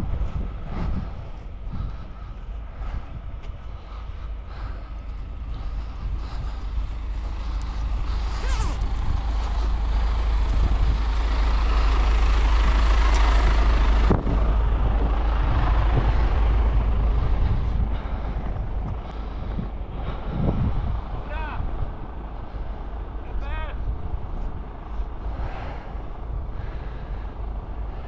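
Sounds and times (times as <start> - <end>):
heavy truck engine under load: 0.0 - 28.0.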